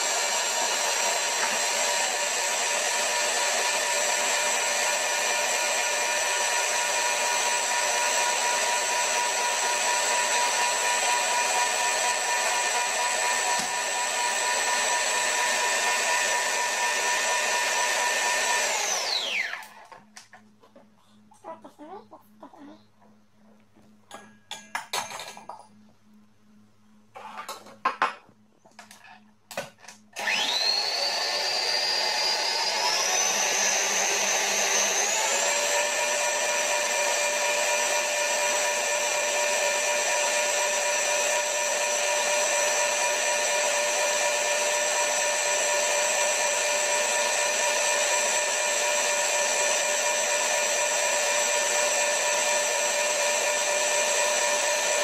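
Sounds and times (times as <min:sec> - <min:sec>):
stand mixer motor whine: 0:00.0 - 0:20.2, 0:30.2 - 0:55.0.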